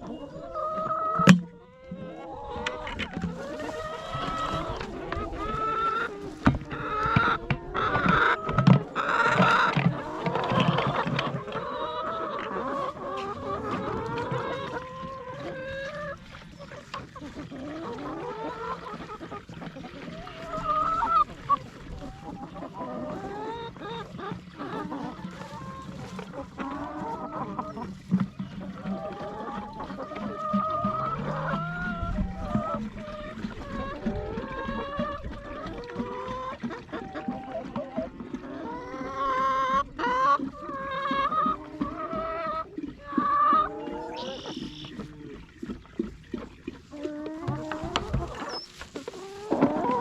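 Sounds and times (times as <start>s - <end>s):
poultry honking clucking and squawking: 0.0s - 45.4s, 46.8s - 50.0s.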